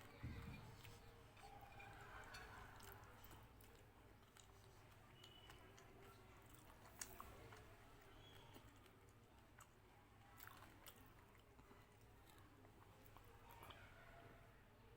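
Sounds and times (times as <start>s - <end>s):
person chewing: 1.8s - 13.9s.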